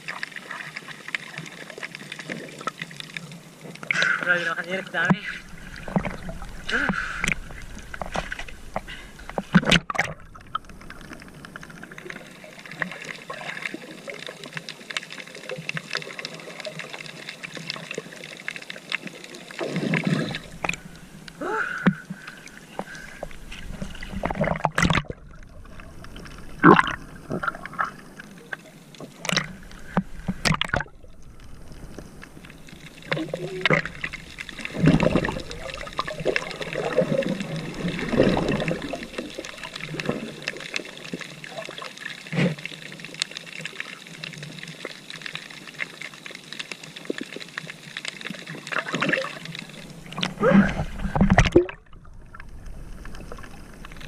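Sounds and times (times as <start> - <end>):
water splashing and gurgling: 0.0 - 54.0.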